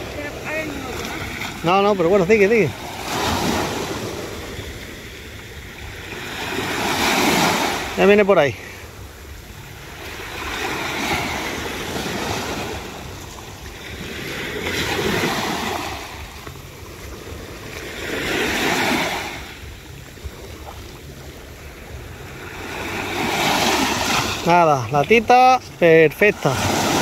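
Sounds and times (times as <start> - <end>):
waves breaking on shore: 0.0 - 27.0.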